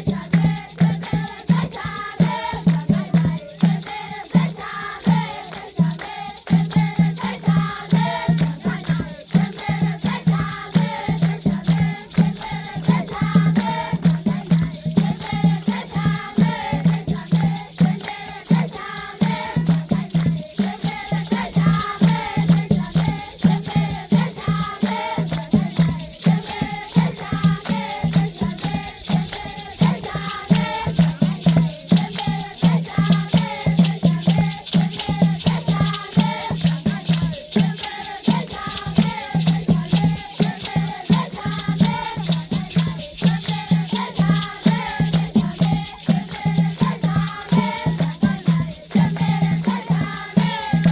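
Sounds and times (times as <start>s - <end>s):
children singing: 0.0s - 50.9s
hand rattles shaking: 0.0s - 50.9s.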